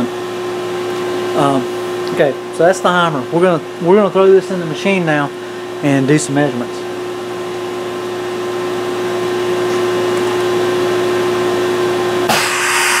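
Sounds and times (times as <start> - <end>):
milling machine hum and whir: 0.0 - 13.0.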